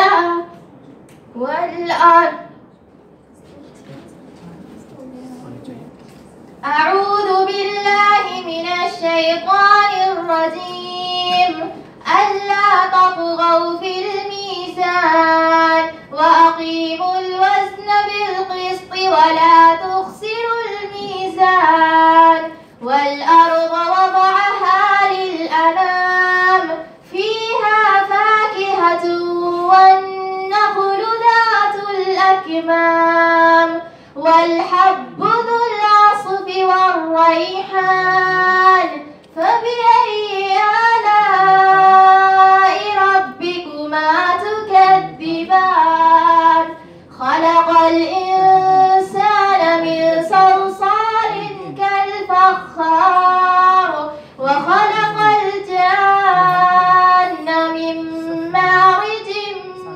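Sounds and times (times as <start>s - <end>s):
woman chanting recitation: 1.4s - 2.6s, 6.6s - 59.9s.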